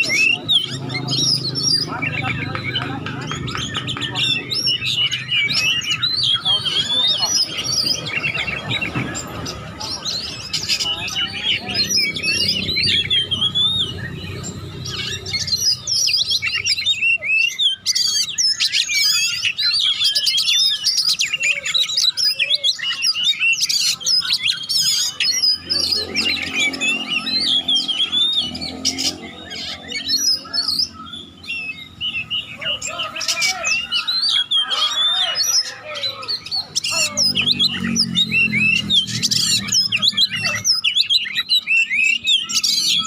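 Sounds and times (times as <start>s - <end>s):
bird singing chirps and whistles: 0.0s - 43.0s.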